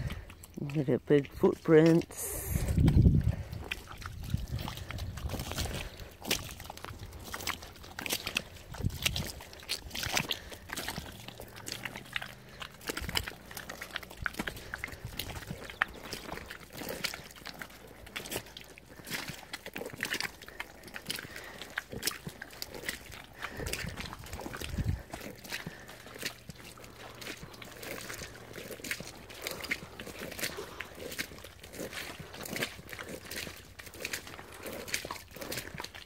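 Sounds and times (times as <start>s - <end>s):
footsteps squelching in mud: 0.0s - 36.0s.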